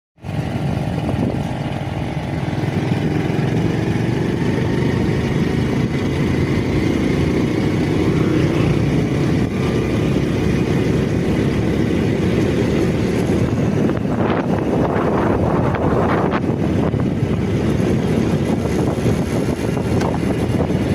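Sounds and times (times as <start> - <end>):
vehicle engine rumble: 0.2 - 20.9.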